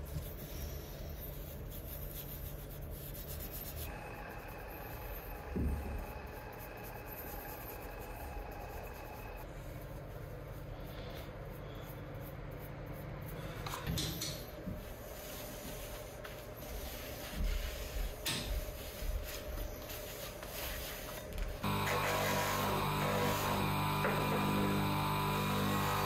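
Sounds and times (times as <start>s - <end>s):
steady hum: 2.6s - 13.5s, 14.8s - 26.0s.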